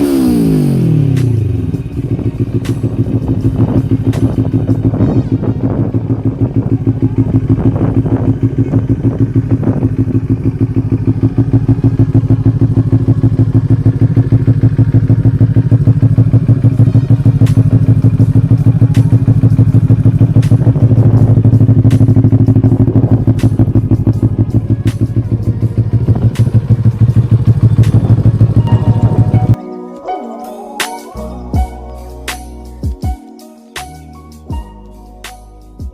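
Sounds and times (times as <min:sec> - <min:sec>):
motorcycle engine idling: 0:00.0 - 0:29.6.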